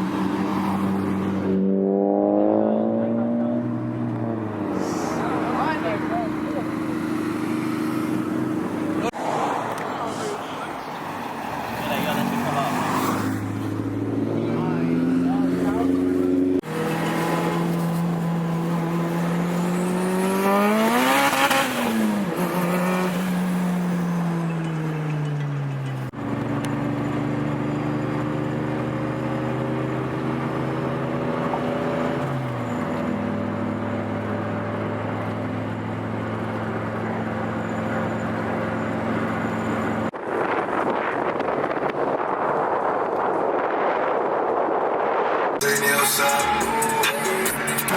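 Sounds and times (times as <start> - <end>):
car revving and passing: 0.0 - 47.9.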